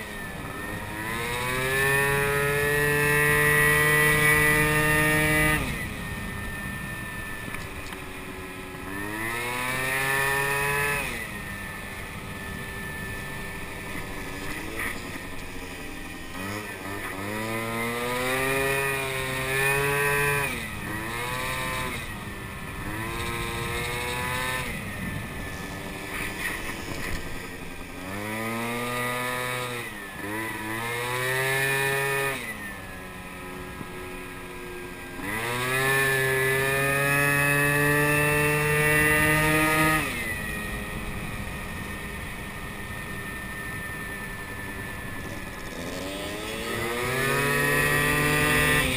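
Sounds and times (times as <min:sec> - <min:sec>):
moped engine revving: 0:00.0 - 0:48.9.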